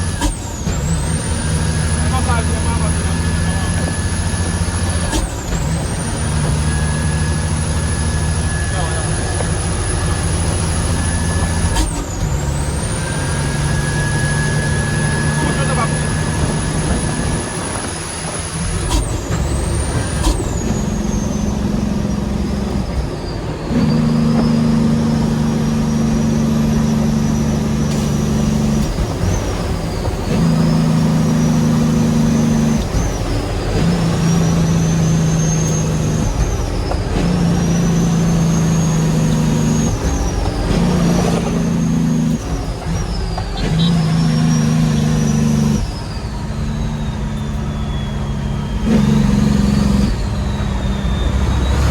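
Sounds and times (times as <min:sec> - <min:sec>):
diesel truck engine shifting gears: 0:00.0 - 0:51.9
high gear whine: 0:00.0 - 0:51.9.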